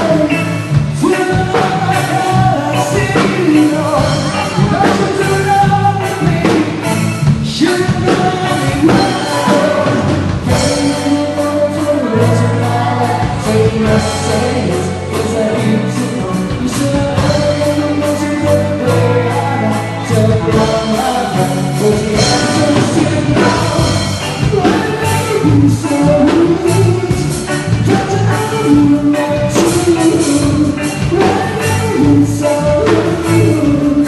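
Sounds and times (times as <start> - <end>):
bass line: 0.0 - 34.0
person singing: 0.0 - 34.0.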